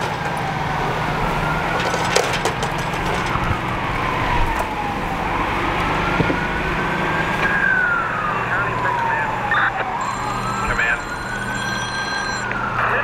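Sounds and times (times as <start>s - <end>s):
emergency vehicle siren wailing: 0.0s - 13.0s
low engine drone: 0.0s - 13.0s.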